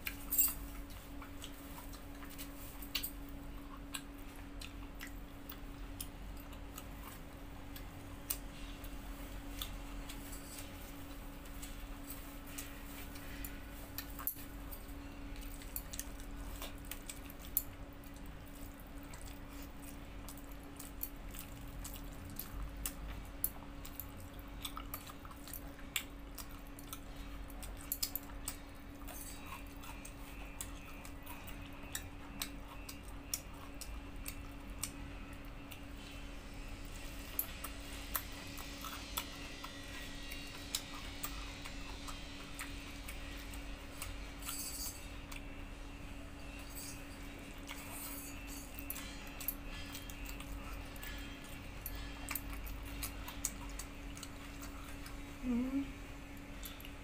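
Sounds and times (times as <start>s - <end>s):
chewing and eating by hand: 0.0s - 57.0s
steady low hum: 0.0s - 57.0s.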